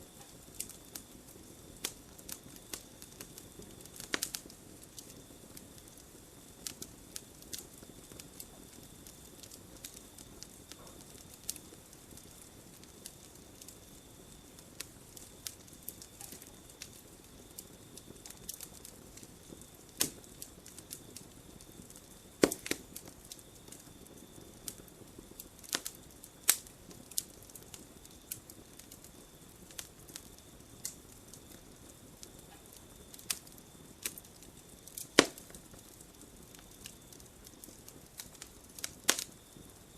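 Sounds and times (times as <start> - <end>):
campfire crackling and popping: 0.0 - 39.9
low rustling burn: 0.0 - 39.9.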